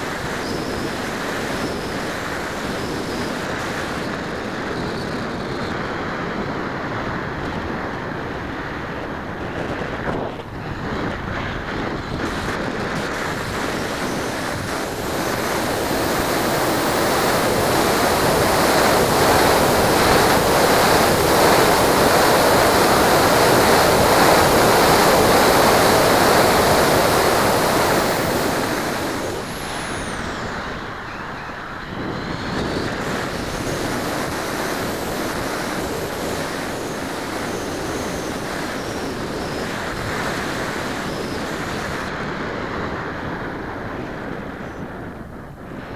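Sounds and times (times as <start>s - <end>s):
faint high whine: 0.0s - 45.9s
wind roar on microphone: 0.0s - 45.9s.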